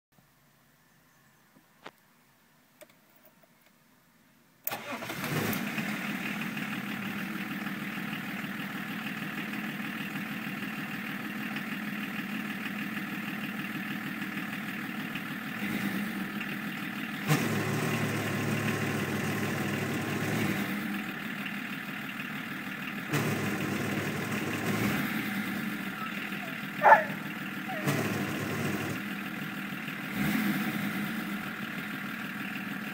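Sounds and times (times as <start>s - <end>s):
diesel engine starting and idling: 4.6s - 32.9s.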